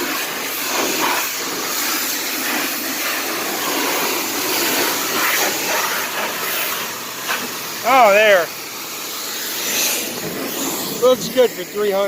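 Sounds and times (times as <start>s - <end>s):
pressure washer spraying: 0.0s - 12.0s.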